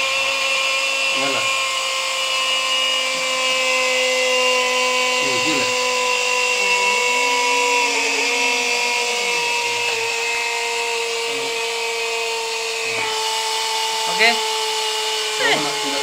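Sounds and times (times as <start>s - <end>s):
pneumatic drill boring into metal: 0.0s - 16.0s.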